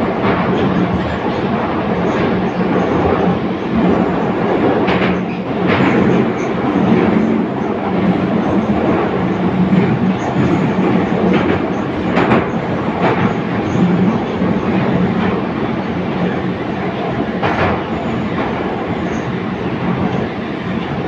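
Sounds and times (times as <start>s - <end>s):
metro car rumble: 0.0s - 21.0s.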